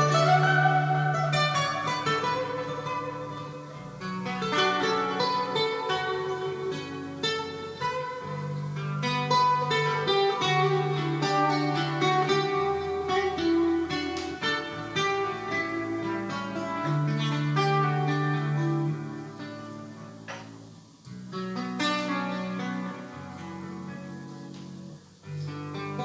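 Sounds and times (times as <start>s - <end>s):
instrumental guitar music: 0.0s - 26.0s.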